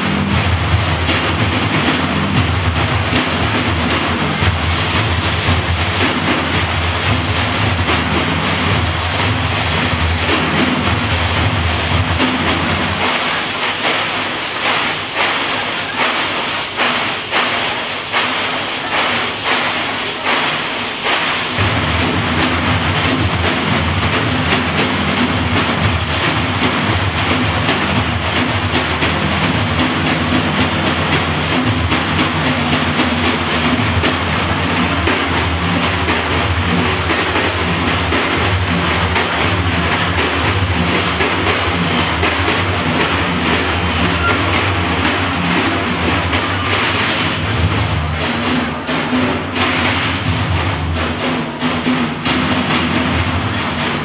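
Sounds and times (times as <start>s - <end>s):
frame drums in steady rhythm: 0.0s - 54.0s.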